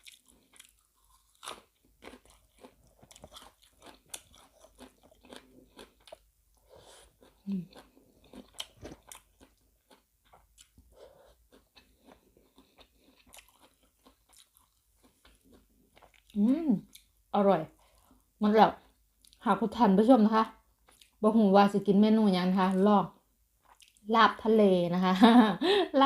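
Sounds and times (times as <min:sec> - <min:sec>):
crunching and chewing food: 0:00.0 - 0:19.4, 0:20.6 - 0:21.2, 0:22.7 - 0:24.1.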